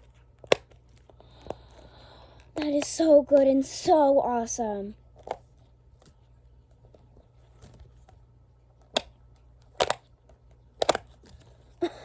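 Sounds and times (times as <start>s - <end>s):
faint low room hum: 0.0s - 12.0s.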